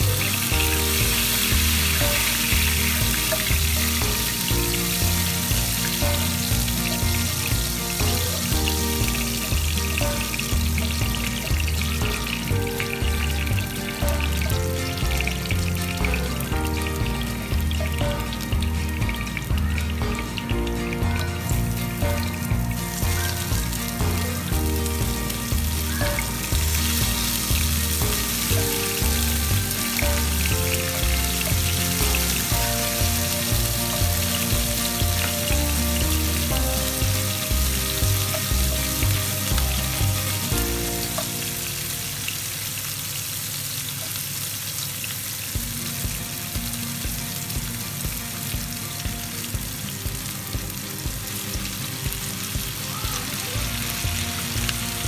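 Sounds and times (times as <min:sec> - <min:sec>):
background music with steady beat: 0:00.0 - 0:42.2, 0:45.5 - 0:55.0
garlic and onion sizzling in oil: 0:00.0 - 0:55.0.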